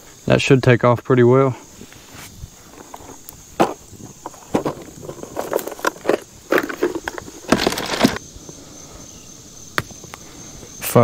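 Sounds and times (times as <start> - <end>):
campfire crackling: 1.6 - 10.8.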